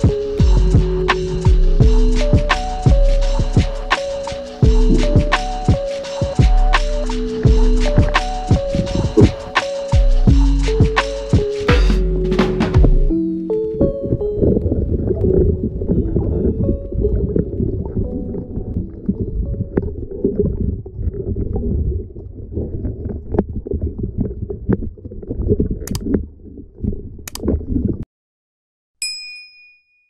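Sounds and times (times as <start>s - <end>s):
underwater rumbling of water: 0.0s - 11.6s, 12.8s - 28.0s.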